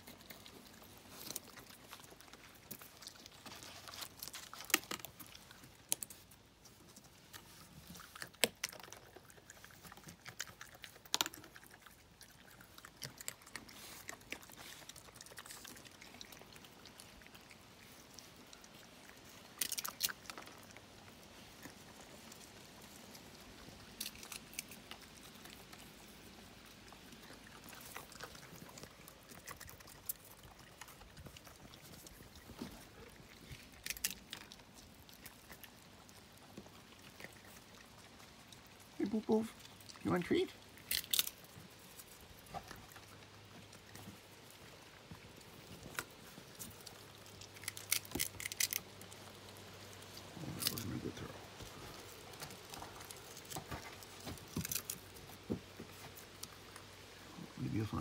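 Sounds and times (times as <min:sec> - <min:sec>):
raccoon crunching peanut shells: 0:00.0 - 0:58.0.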